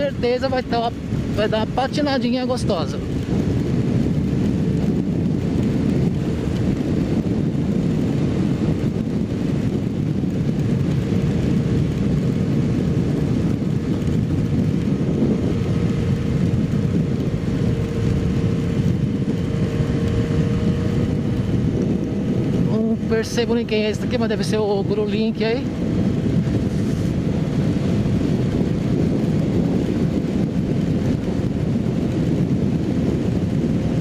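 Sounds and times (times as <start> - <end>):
motorcycle engine droning: 0.0 - 34.0
wind rush: 0.0 - 34.0.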